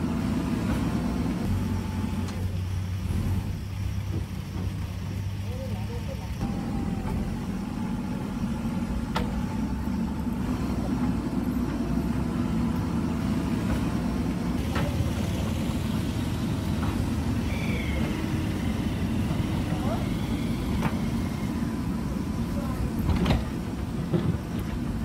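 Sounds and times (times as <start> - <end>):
backhoe engine running: 0.0 - 25.0.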